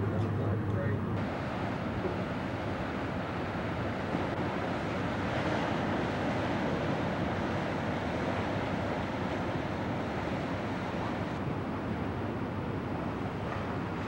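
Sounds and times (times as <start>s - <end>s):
sea: 0.0s - 14.0s.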